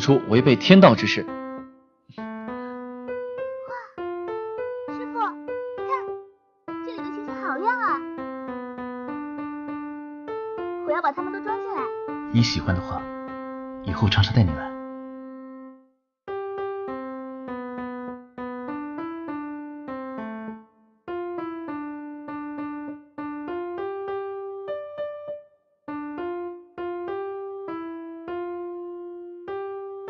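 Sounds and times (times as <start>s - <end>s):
slow solo piano melody: 0.0s - 30.0s.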